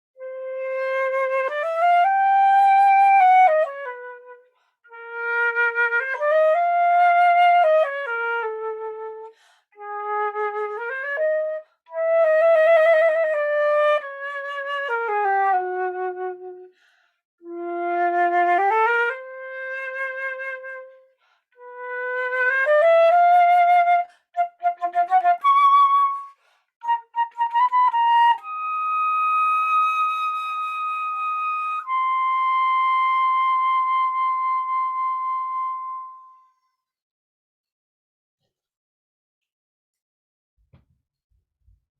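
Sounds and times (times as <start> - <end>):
solo flute playing: 0.2 - 16.7, 17.4 - 36.7.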